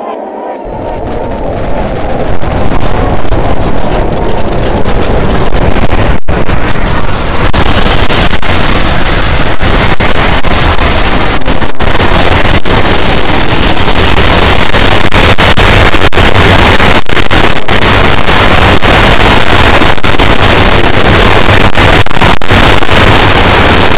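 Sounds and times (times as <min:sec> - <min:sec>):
television static hiss: 0:00.0 - 0:23.9.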